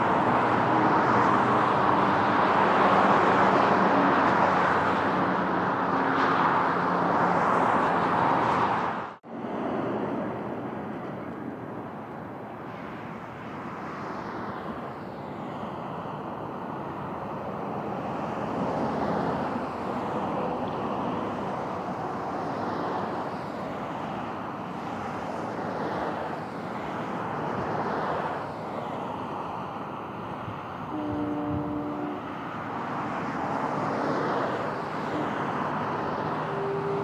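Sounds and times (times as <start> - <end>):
aircraft engines passing: 0.0 - 37.0.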